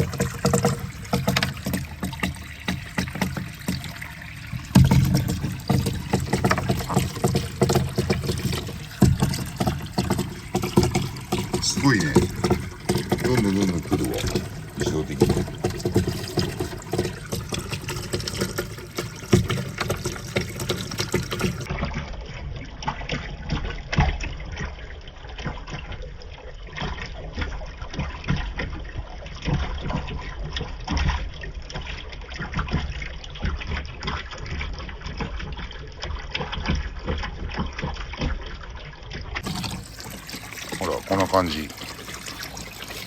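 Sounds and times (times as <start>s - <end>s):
water running down marble run: 0.0s - 43.0s.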